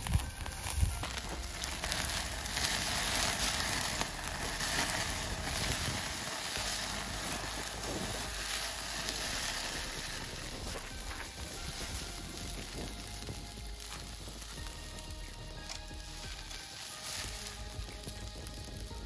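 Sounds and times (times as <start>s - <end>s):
meat sizzling on a grill: 0.0s - 19.0s.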